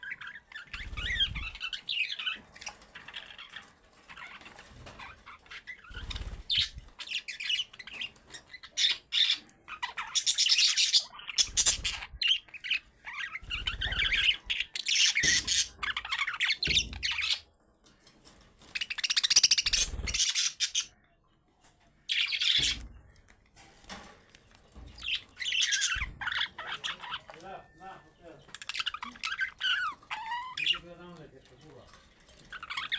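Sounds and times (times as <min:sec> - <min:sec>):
budgerigars chattering: 0:00.0 - 0:17.4, 0:18.8 - 0:21.0, 0:22.1 - 0:22.9, 0:25.0 - 0:31.8, 0:32.4 - 0:32.9.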